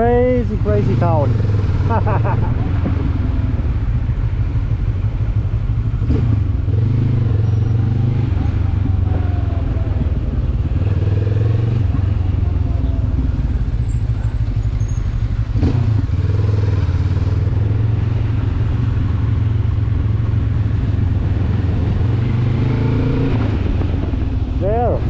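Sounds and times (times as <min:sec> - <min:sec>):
motorcycle engine running: 0:00.0 - 0:24.9
road and wind rush: 0:00.0 - 0:25.0.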